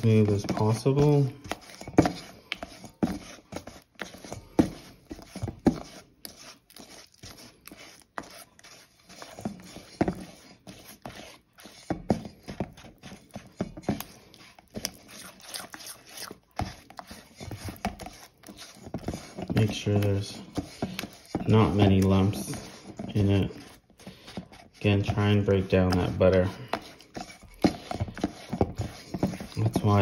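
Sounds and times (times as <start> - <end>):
spatula scraping metal bowl: 0.0 - 30.0.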